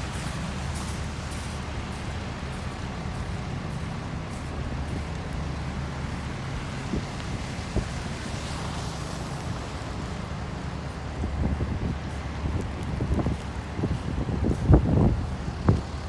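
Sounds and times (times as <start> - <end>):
street noise: 0.0 - 16.0
wind buffeting microphone: 0.0 - 16.0.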